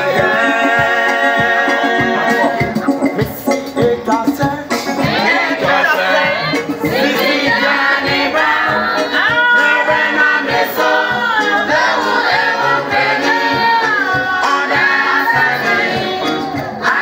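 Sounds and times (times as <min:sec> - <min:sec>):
women's choir singing a hymn: 0:00.0 - 0:02.7, 0:05.0 - 0:17.0
electronic keyboard: 0:00.0 - 0:17.0.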